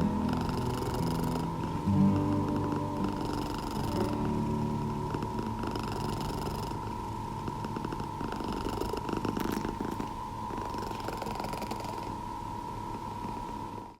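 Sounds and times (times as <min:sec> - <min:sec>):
cat purring: 0:00.0 - 0:13.9.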